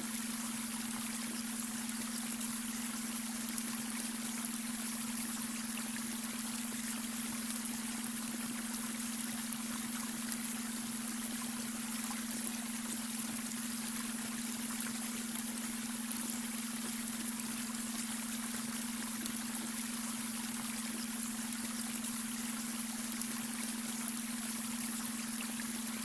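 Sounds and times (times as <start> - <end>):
constant low hum tone: 0.0 - 26.0
water trickling over stones: 0.0 - 26.0.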